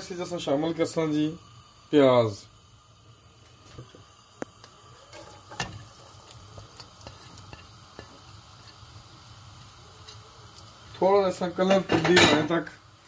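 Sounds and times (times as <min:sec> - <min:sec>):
faint frying: 0:00.0 - 0:13.0.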